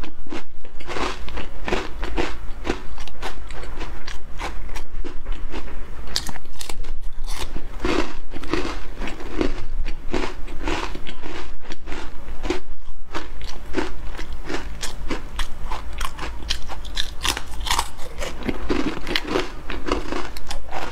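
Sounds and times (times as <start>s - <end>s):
biscuits crunching while chewed: 0.0s - 20.9s.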